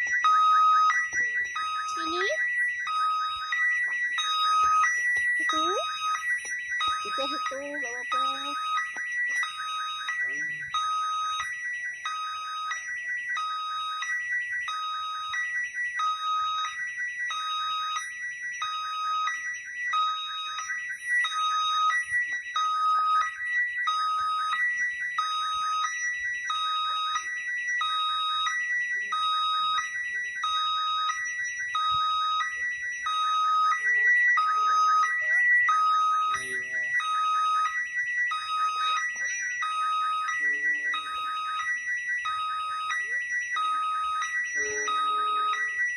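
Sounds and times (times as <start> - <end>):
two-tone electronic crossing alarm: 0.0 - 45.9.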